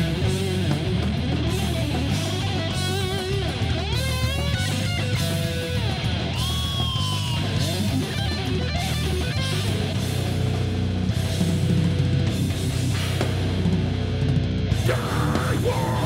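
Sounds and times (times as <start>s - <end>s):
distorted electric guitar lead: 0.0s - 16.0s
heavy metal band playing: 0.0s - 16.0s.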